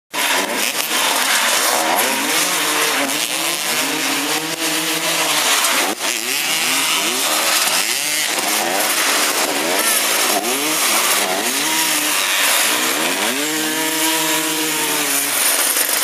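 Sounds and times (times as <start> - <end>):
motorcycle engines revving: 0.1 - 16.0.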